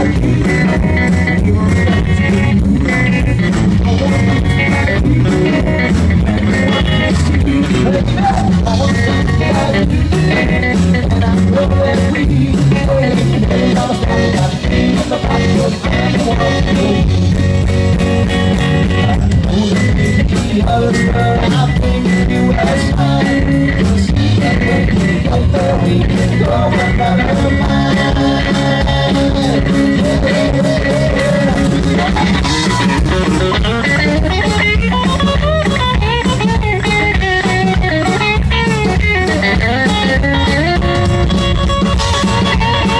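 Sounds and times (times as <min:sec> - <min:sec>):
live rock band playing: 0:00.0 - 0:42.9.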